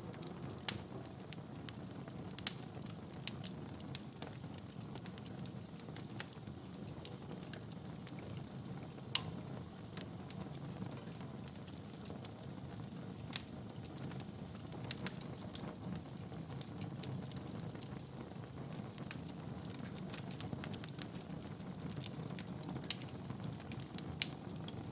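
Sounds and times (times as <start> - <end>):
fire crackling and popping: 0.0 - 24.9
low rumble of flames: 0.0 - 24.9.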